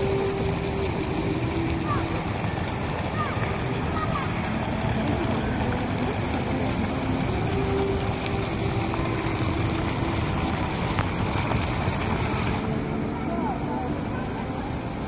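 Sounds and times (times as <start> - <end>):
faint voices: 0.0 - 15.0
fountain water splashing: 0.0 - 15.0.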